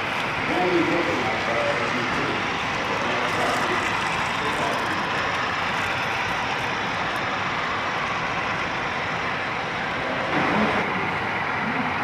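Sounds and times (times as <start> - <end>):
steady background hum and hiss: 0.0 - 12.0.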